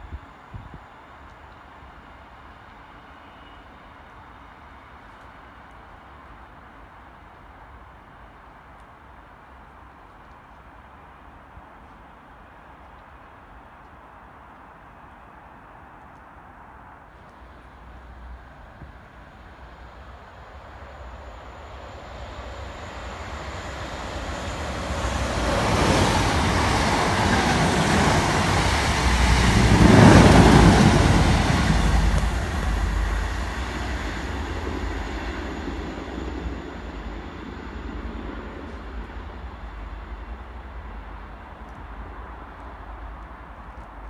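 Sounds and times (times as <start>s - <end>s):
train passing at speed: 0.0s - 44.0s.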